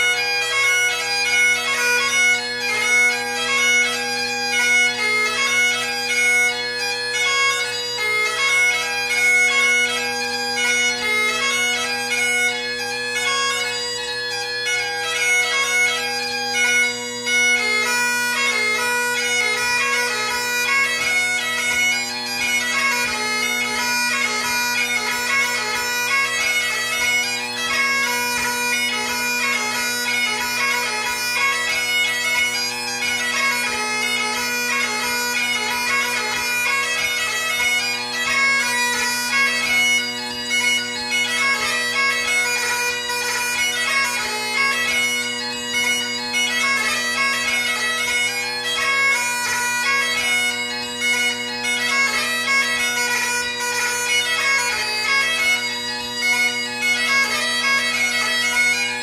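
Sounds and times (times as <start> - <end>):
bagpipe playing: 0.0 - 59.0.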